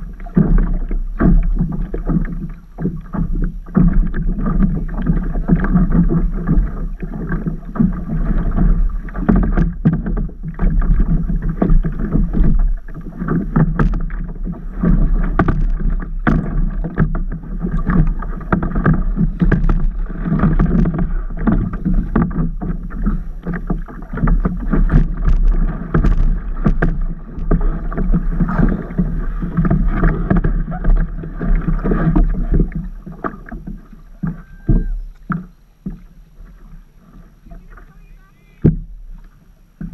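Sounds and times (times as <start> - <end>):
water splashing against paddleboard: 0.0 - 39.9.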